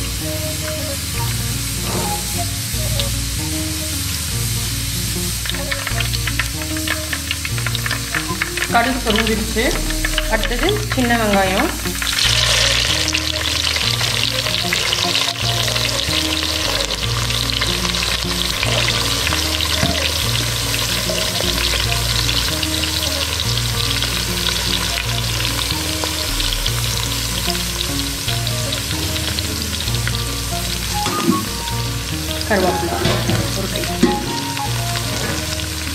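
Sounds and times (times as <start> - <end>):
shallots sizzling in hot oil: 0.0 - 35.9.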